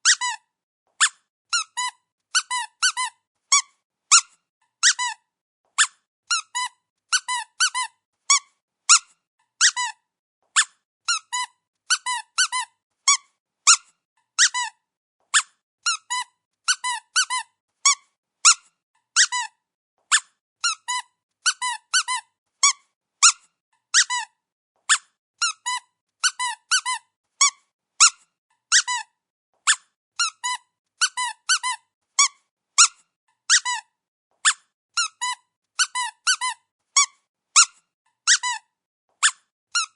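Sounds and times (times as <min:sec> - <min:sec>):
squeaky dog toy squeaking: 0:00.0 - 0:39.9.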